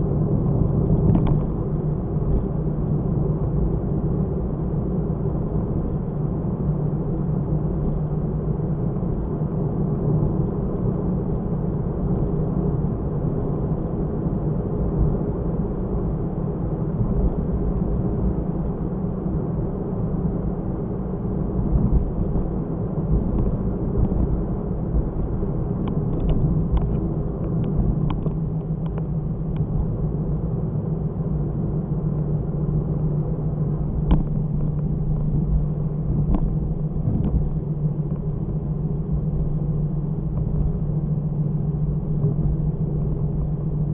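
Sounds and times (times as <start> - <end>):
engine and road noise rumble: 0.0 - 43.9.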